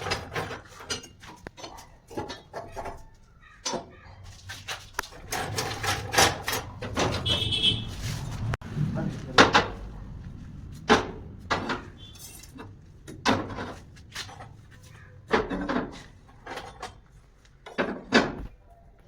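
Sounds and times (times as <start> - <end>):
metal clanks and knocks: 0.0 - 8.6, 9.2 - 10.1, 10.7 - 18.6.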